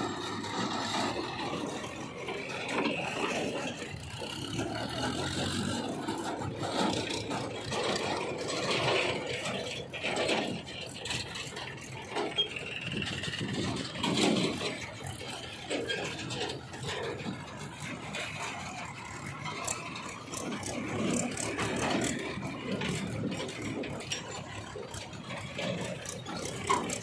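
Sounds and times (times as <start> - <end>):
tractor engines running: 0.0 - 27.0
trailers rattling: 0.0 - 27.0.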